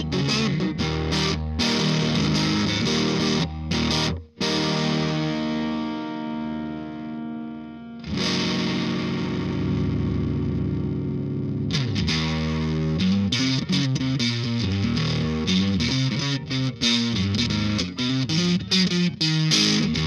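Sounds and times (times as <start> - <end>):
distorted electric guitar: 0.0 - 20.0.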